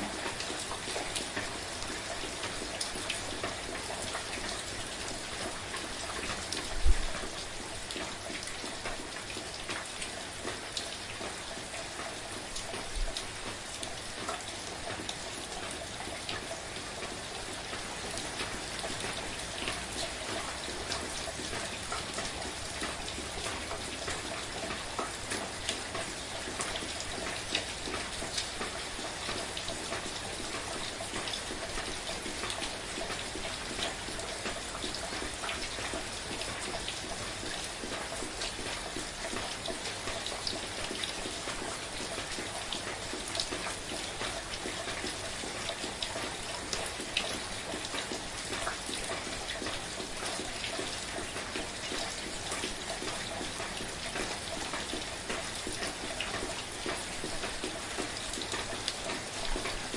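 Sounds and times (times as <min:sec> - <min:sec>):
steady gentle rain: 0:00.0 - 0:59.9.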